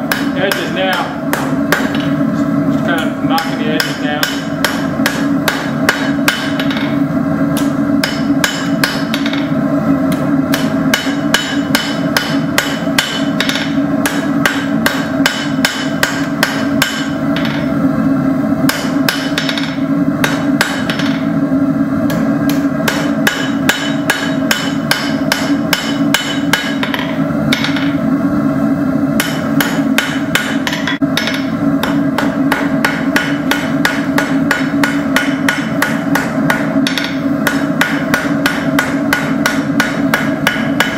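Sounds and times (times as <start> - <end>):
hammer striking steel on anvil: 0.0 - 2.2, 3.4 - 7.0, 7.6 - 9.5, 10.1 - 17.7, 18.7 - 21.3, 22.1 - 28.0, 29.2 - 40.9
steady hum: 0.0 - 40.9.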